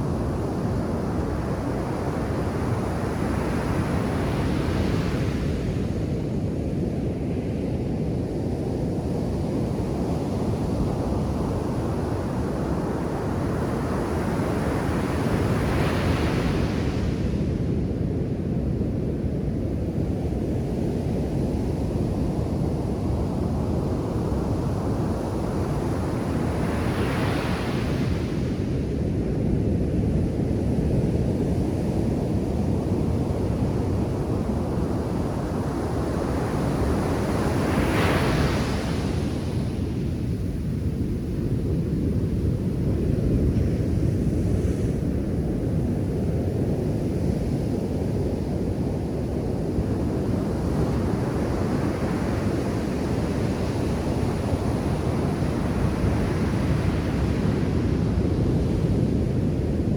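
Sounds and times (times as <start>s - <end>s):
low rumble of surf: 0.0s - 59.9s.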